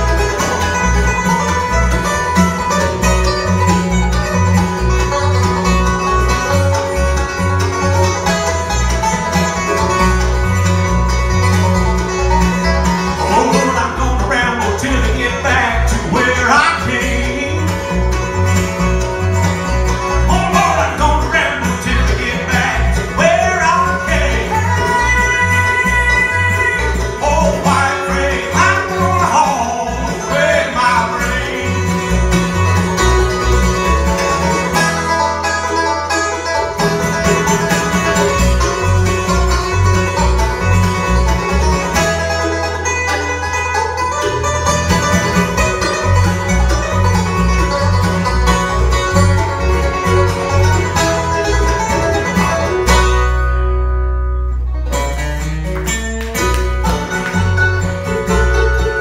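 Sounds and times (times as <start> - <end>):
bluegrass band playing: 0.0 - 59.0.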